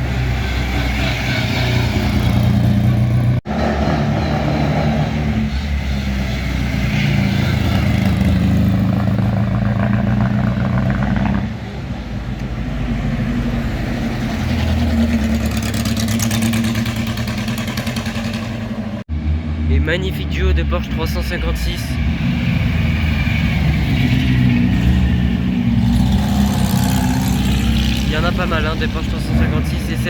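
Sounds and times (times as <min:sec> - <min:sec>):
car engines driving past: 0:00.0 - 0:30.0.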